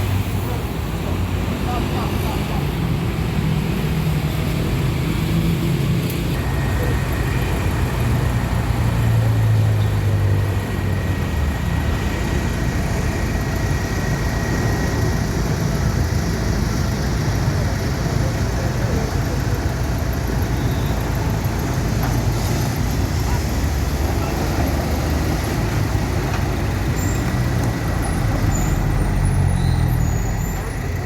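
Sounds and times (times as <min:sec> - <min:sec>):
road traffic noise: 0:00.0 - 0:31.0
vehicle engine rumbling: 0:00.0 - 0:31.0.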